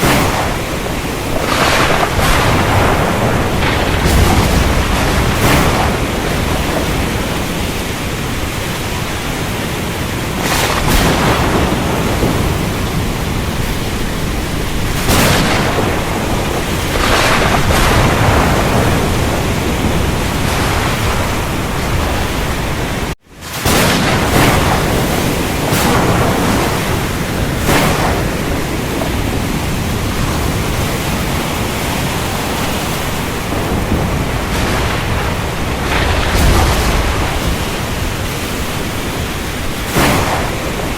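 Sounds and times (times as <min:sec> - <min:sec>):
heavy rain: 0:00.0 - 0:40.9
thunder: 0:00.0 - 0:40.9.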